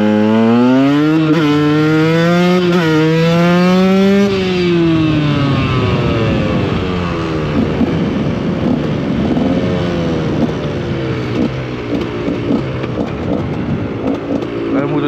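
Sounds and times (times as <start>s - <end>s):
two-stroke motorcycle engine: 0.0s - 15.0s.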